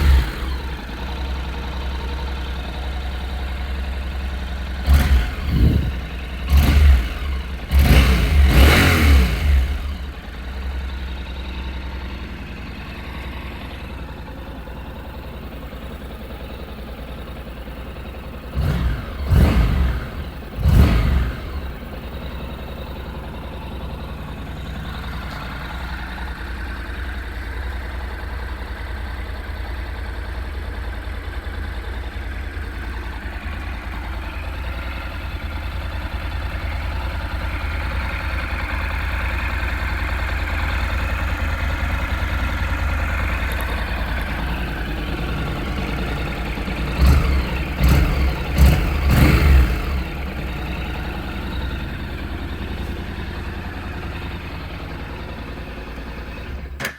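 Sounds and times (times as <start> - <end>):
motorcycle engine revving: 0.0 - 11.2, 15.0 - 56.9
motorcycle engine idling: 0.0 - 56.9.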